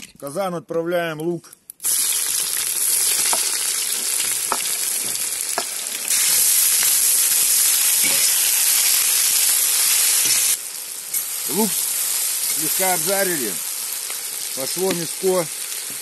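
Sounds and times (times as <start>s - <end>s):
onion sizzling in hot oil: 1.8s - 16.0s.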